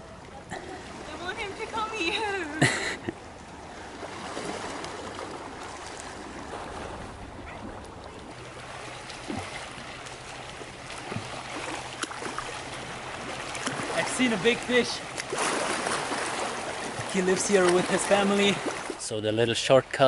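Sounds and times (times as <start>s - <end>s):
waves lapping over rocks: 0.3s - 19.8s.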